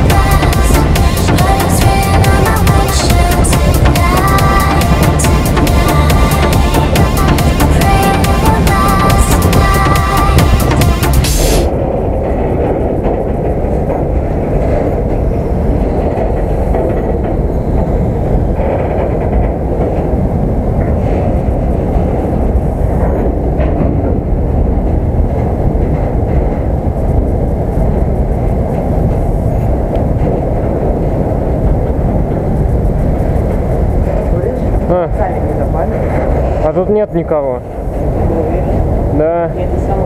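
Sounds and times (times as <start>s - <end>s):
freight train rumble: 0.0s - 40.0s.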